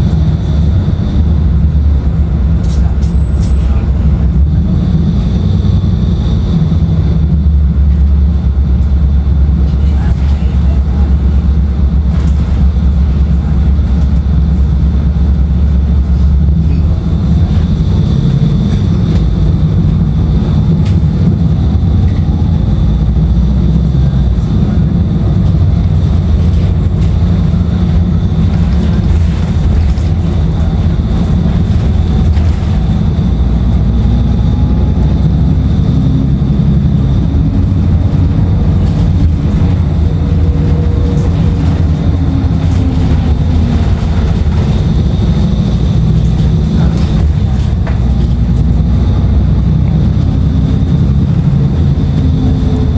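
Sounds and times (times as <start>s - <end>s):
bus engine low drone: 0.0s - 52.9s.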